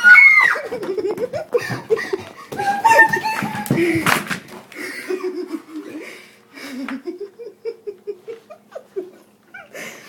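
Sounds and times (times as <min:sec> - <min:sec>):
person laughing: 0:00.5 - 0:04.2, 0:04.8 - 0:10.0.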